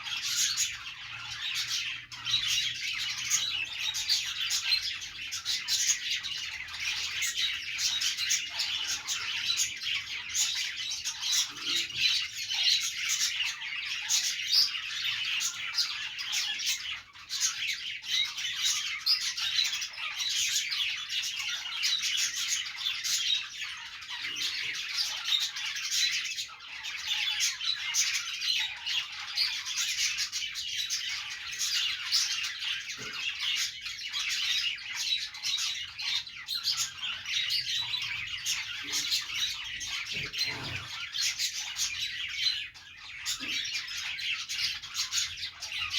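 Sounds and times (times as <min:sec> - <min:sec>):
bird squawks: 0:00.0 - 0:45.9
budgerigars chirping and warbling: 0:00.0 - 0:45.9.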